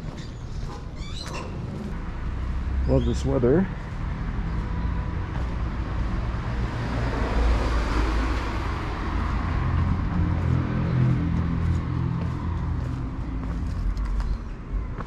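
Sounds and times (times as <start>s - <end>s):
low traffic rumble: 0.0s - 15.0s
car passing: 1.7s - 13.9s.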